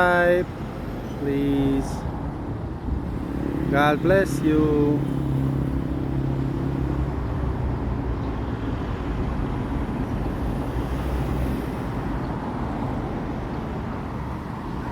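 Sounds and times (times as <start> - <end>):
road traffic rumble: 0.0 - 14.9.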